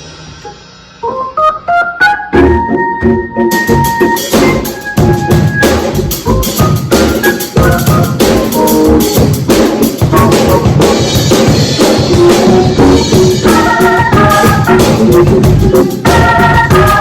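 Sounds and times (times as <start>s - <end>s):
bass and chords: 0.0s - 17.0s
held keyboard chords: 0.0s - 17.0s
drum kit playing steady beat: 2.4s - 17.0s.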